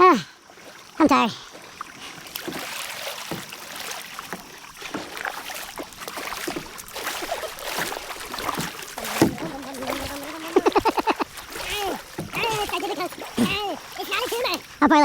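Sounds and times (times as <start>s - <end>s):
paddle splashing in water: 0.0s - 15.0s.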